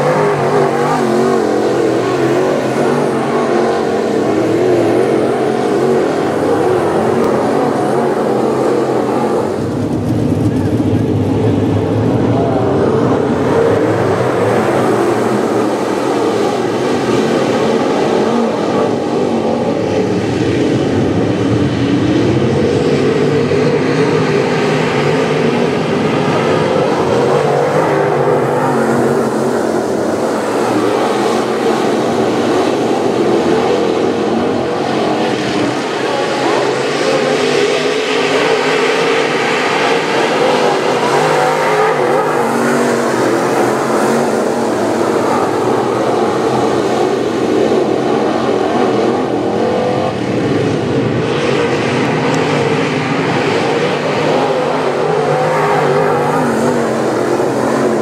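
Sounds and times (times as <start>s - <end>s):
race car engines roaring: 0.0s - 58.0s.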